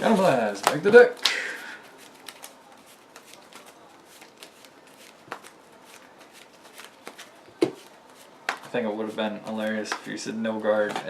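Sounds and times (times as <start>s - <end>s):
cards shuffling: 0.0s - 10.2s.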